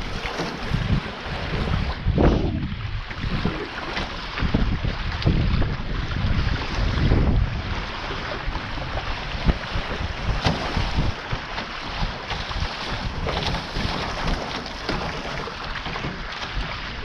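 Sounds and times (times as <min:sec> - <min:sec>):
water splashing along a hull: 0:00.0 - 0:17.0
wind buffeting microphone: 0:00.0 - 0:17.0.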